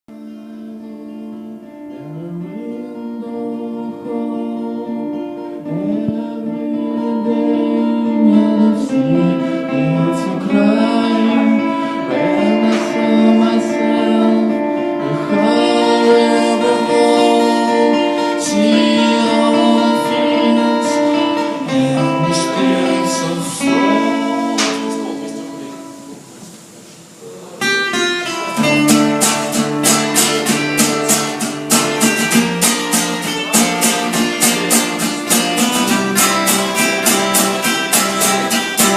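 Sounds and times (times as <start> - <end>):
person singing folk song: 0.1 - 26.3, 27.7 - 38.9
acoustic guitar strumming: 0.1 - 38.9.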